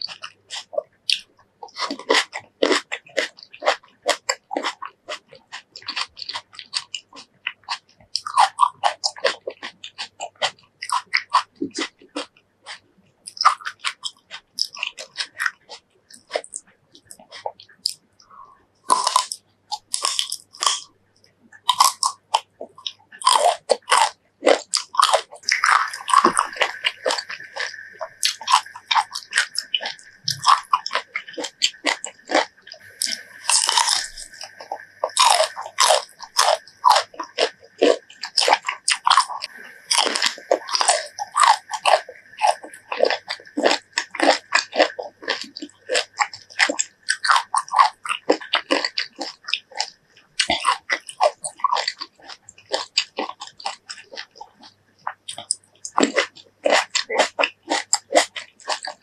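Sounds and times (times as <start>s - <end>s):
crunchy fruit chewing: 0.0s - 59.0s.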